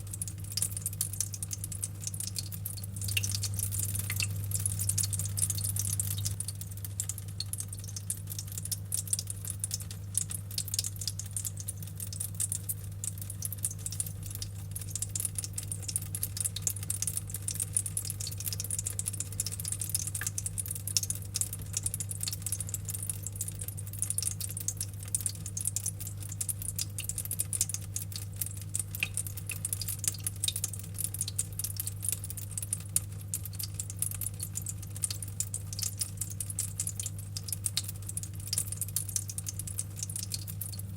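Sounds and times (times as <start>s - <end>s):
water drops dripping: 0.0s - 40.9s.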